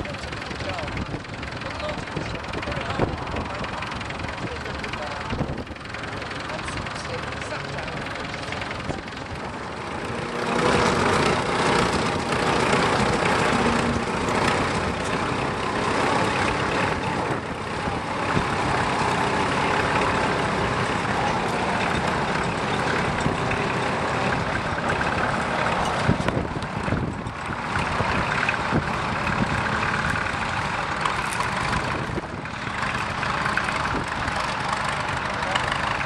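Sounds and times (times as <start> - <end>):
tractor engines running under load: 0.0 - 36.0.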